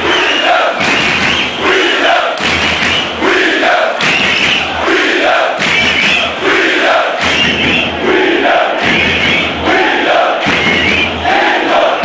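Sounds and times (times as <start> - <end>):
stadium crowd chanting: 0.0 - 12.0.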